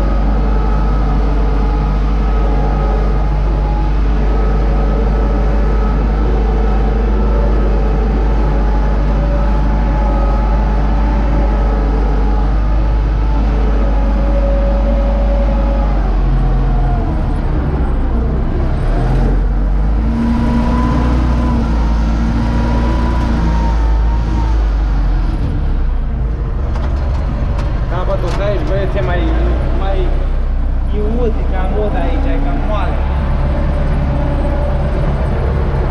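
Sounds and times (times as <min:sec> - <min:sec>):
faint whining tones: 0:00.0 - 0:35.9
tractor diesel engine droning: 0:00.0 - 0:35.9.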